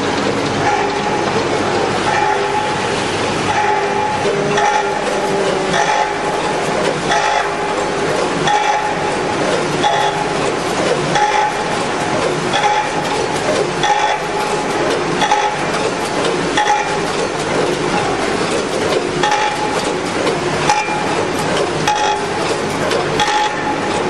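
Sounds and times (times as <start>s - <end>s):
metallic clack of hopper gates: 0.0s - 24.0s
packaging machine running: 0.0s - 24.0s.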